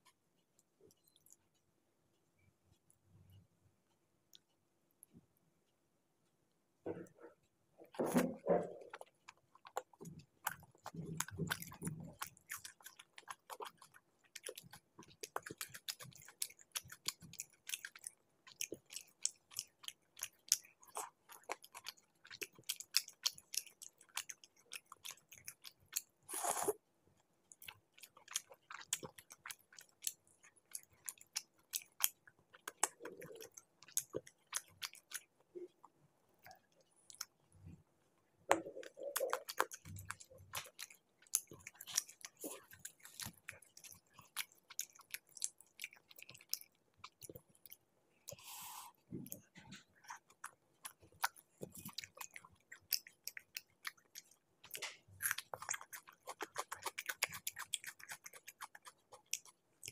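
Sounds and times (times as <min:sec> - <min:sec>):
chewing with wet mouth clicks: 0:00.0 - 0:01.6, 0:07.8 - 0:37.8, 0:38.5 - 0:59.9.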